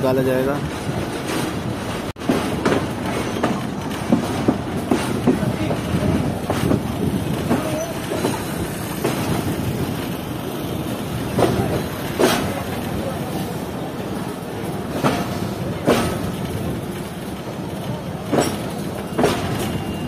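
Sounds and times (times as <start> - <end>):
steady train rumble: 0.0 - 20.0
train wheels clattering over rail joints: 0.1 - 20.0.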